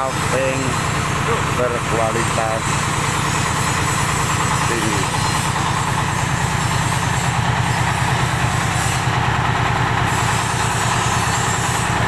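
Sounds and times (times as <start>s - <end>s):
machine hum with rattling pulse: 0.0s - 12.0s.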